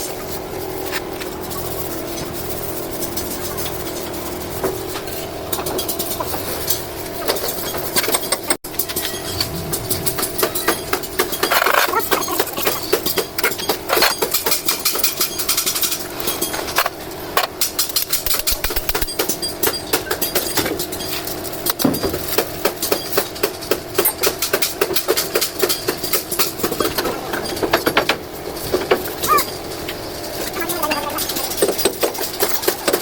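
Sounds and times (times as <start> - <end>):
metal tools and parts clinking: 0.0 - 33.0.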